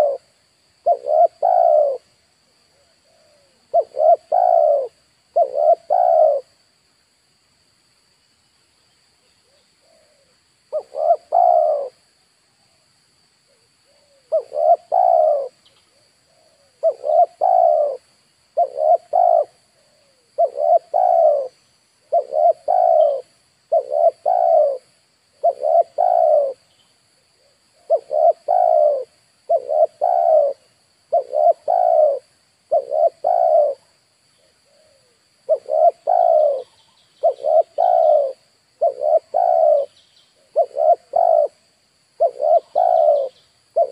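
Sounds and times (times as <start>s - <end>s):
dove cooing: 0.0s - 2.1s, 2.7s - 6.6s, 9.4s - 12.0s, 13.6s - 26.7s, 27.3s - 43.9s.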